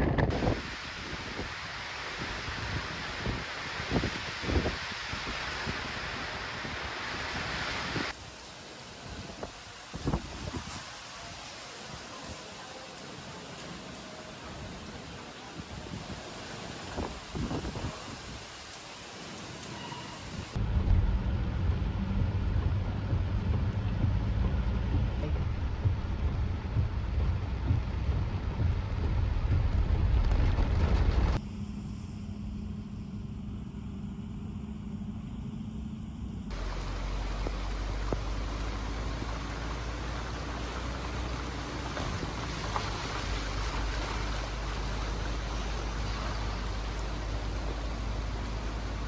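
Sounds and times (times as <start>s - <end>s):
wind rumbling: 0.0s - 12.4s, 14.5s - 31.4s, 36.5s - 49.0s
heavy rain hissing: 0.2s - 31.4s, 36.5s - 49.0s.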